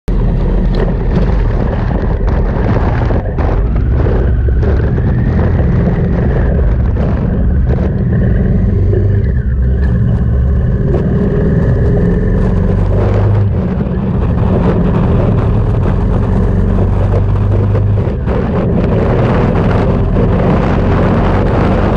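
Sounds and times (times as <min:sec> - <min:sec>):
road noise: 0:00.0 - 0:21.9
vehicle engine: 0:00.0 - 0:21.9
wind buffeting microphone: 0:00.1 - 0:21.9.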